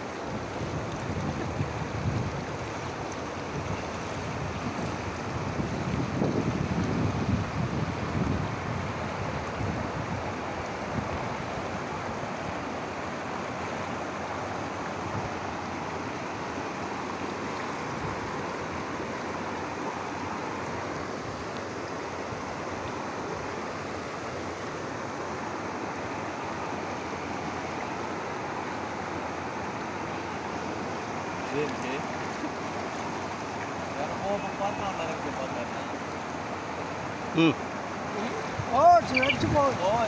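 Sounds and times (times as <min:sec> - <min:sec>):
floodwater rushing: 0:00.0 - 0:40.0.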